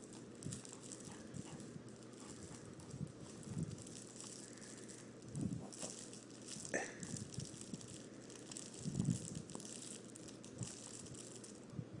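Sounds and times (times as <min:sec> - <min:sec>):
dog chewing toy: 0:00.0 - 0:11.1.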